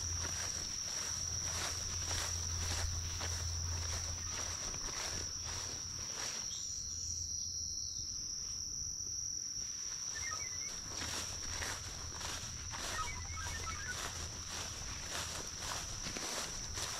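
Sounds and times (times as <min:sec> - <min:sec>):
scuffing footsteps: 0:00.0 - 0:06.6, 0:09.7 - 0:16.9
insects trilling: 0:00.0 - 0:16.9.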